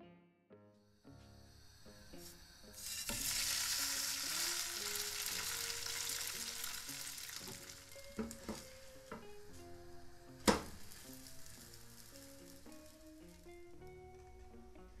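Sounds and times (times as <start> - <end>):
food sizzling in hot oil: 1.3 - 13.9.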